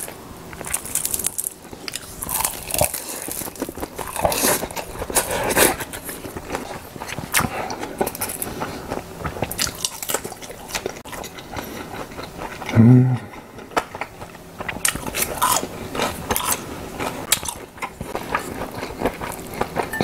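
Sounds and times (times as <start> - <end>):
man chewing food: 0.0 - 20.0.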